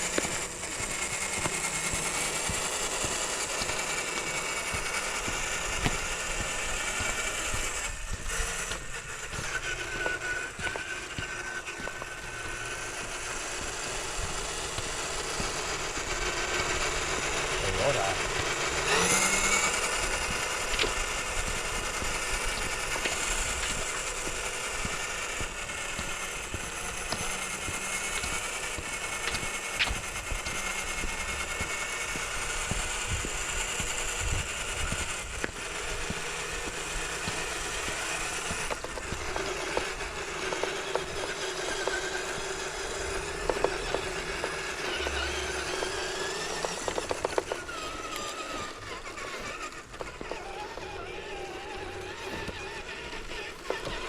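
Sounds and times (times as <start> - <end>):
electric motor whining: 0.0 - 54.0
steady grind with clicks: 0.0 - 54.0.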